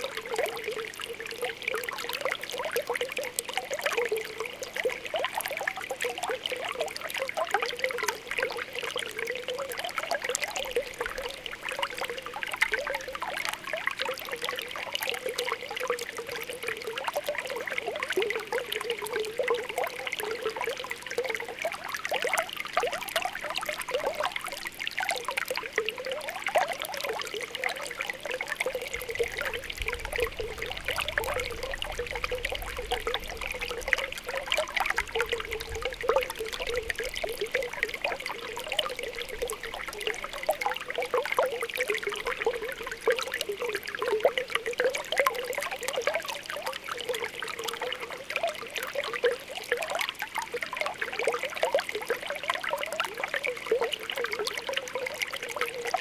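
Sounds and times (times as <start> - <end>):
spring water bubbling: 0.0 - 56.0.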